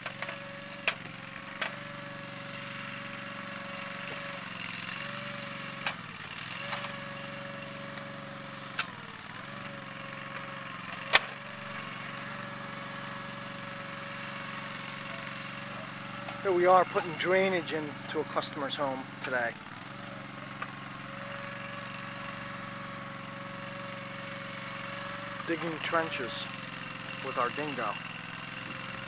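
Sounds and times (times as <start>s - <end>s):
loader engine running: 0.0s - 29.0s.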